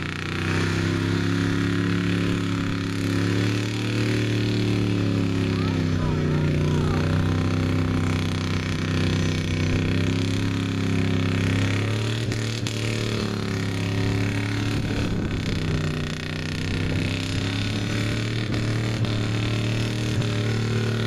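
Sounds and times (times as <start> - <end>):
truck engine at high revs: 0.0 - 21.0
wheels spinning in mud: 0.0 - 21.0.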